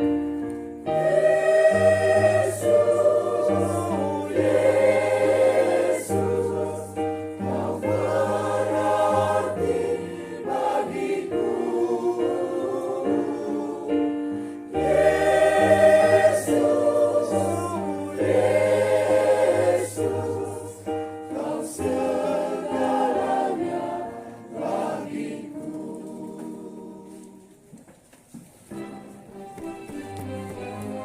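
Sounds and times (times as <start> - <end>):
choir singing a hymn: 0.0 - 27.6.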